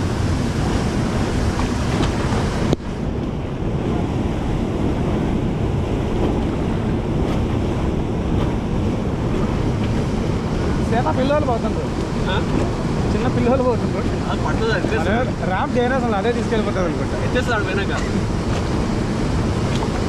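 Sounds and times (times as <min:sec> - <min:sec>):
whitewater rushing: 0:00.0 - 0:20.0
wind buffeting microphone: 0:00.0 - 0:20.0.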